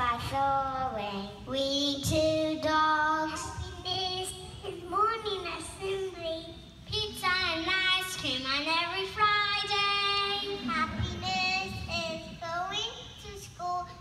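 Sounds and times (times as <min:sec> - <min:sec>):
child singing into a microphone: 0:00.0 - 0:14.0.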